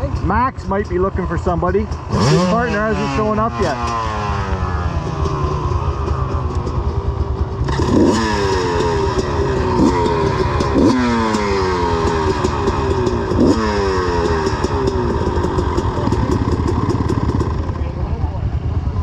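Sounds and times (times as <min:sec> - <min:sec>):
dirt bike engine revving: 0:00.0 - 0:18.2
low rumble of engines: 0:00.0 - 0:19.0.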